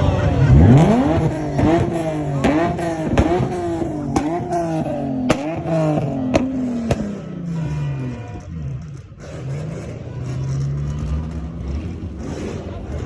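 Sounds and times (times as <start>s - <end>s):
car engine revving: 0.0s - 13.0s
exhaust pops: 0.4s - 13.0s.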